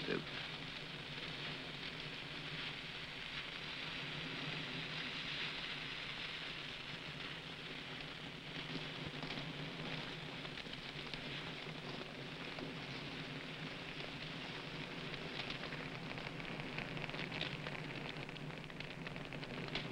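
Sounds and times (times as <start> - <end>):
brush fire crackling: 0.0 - 19.9.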